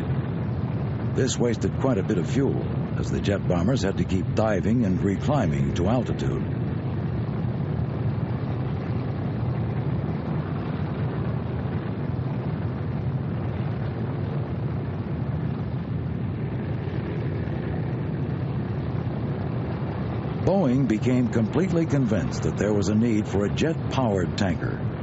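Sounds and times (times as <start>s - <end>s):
aircraft engines running: 0.0s - 25.0s.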